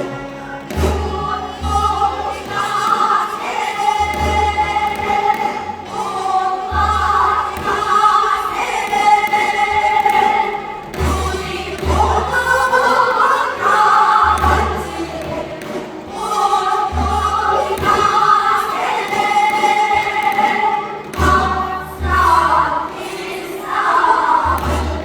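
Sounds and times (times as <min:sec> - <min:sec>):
folk singing voices: 0:00.0 - 0:25.0
low drum beats: 0:00.7 - 0:25.0.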